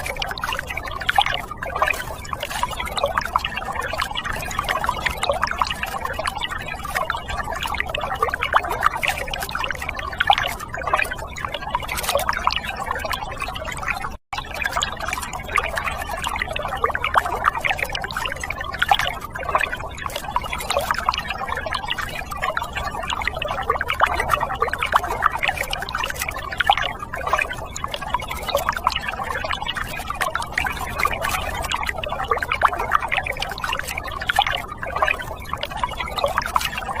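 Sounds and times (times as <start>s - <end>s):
water pouring and splashing: 0.0s - 37.0s.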